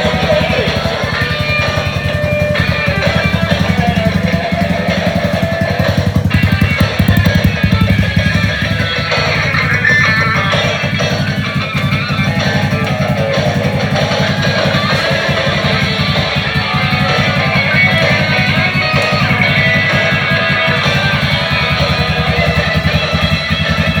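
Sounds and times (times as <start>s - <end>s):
scooter engine idling: 0.0s - 24.0s.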